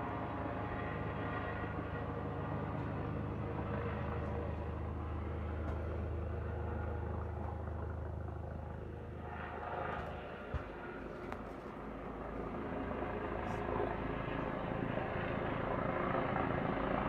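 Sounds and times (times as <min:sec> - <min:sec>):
helicopter drone overhead: 0:00.0 - 0:17.0.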